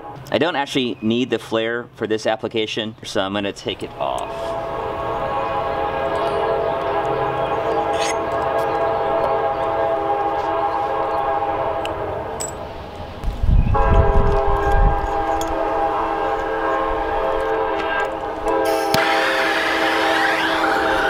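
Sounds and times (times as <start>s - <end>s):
train passing drone: 0.0s - 2.4s, 3.6s - 21.0s.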